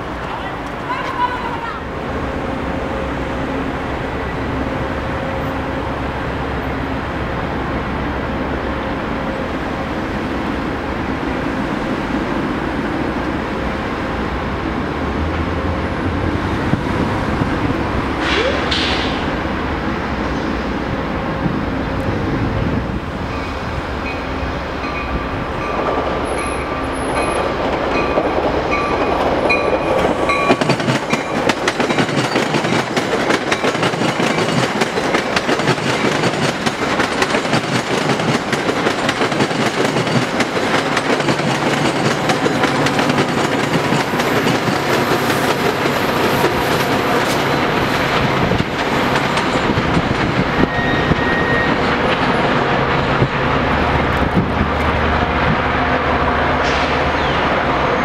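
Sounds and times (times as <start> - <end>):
train wheels rushing on rails: 0.0 - 58.0.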